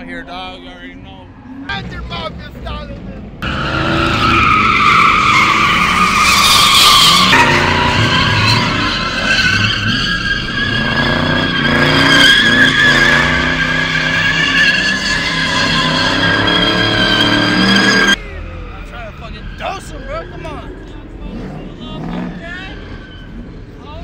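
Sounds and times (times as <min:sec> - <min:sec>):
tyres squealing: 0:03.4 - 0:24.0.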